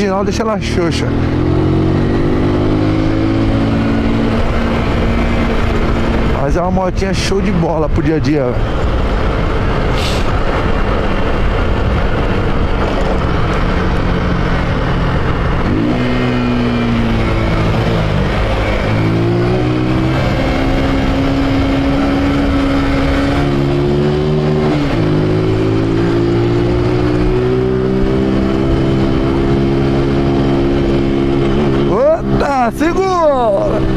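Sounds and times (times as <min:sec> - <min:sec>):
motorcycle engine shifting gears: 0:00.0 - 0:06.6, 0:08.6 - 0:33.9.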